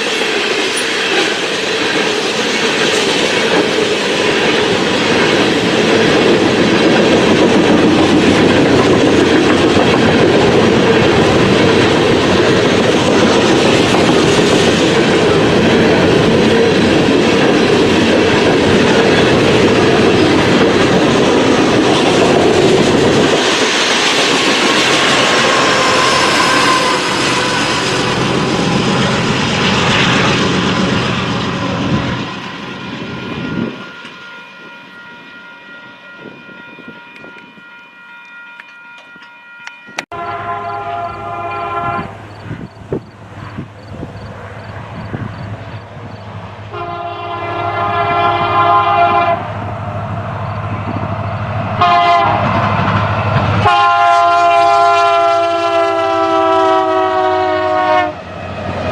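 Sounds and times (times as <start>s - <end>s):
freight train rumbling on rails: 0.0s - 58.9s.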